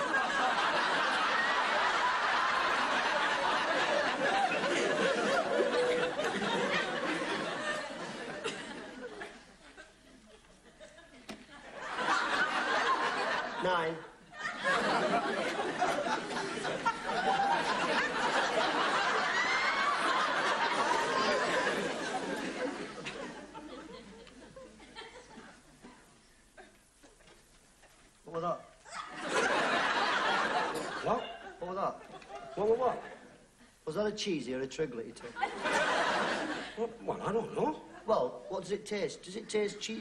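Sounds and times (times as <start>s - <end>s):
studio audience laughing: 0.0s - 25.6s, 28.9s - 33.3s, 35.2s - 38.1s.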